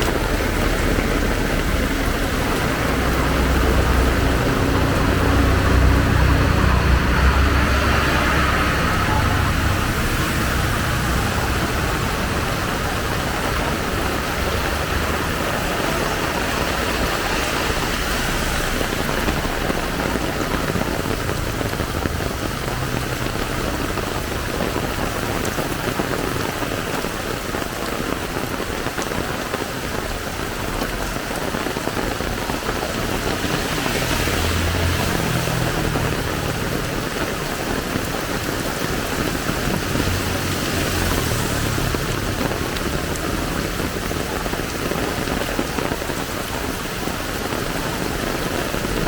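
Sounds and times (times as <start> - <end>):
heavy rain pouring: 0.0 - 49.0
vehicle engine rumble: 0.0 - 49.0.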